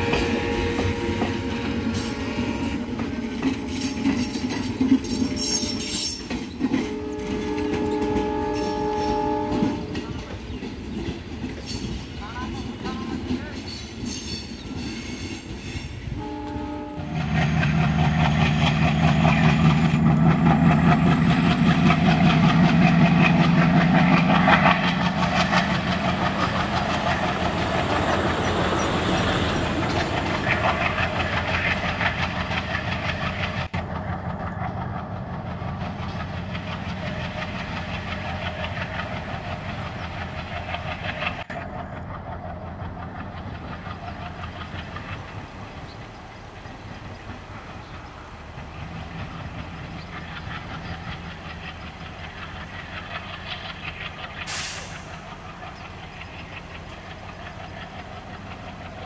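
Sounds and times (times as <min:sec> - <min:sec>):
coaches clacking over rail joints: 0:00.0 - 0:59.0
diesel locomotive passing: 0:00.0 - 0:59.0.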